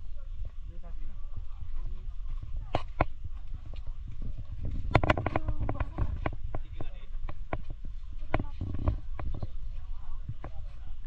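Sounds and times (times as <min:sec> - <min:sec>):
people's voices: 0:00.0 - 0:11.0
wind rumble on microphone: 0:00.0 - 0:11.0.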